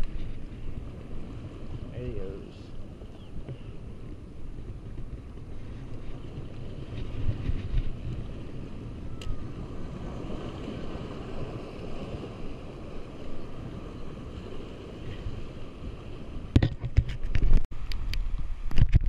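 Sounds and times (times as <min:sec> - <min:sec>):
waves splashing against rocks: 0:00.0 - 0:19.0
wind buffeting microphone: 0:00.0 - 0:19.0.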